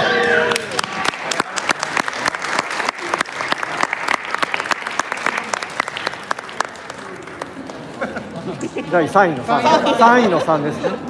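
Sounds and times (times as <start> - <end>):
crowd applauding: 0.1 - 9.8.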